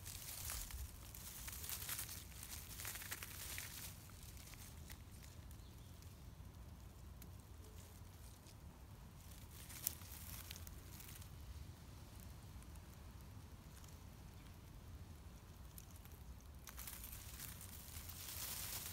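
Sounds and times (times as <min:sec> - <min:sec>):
grass and leaves rustling: 0:00.0 - 0:18.9.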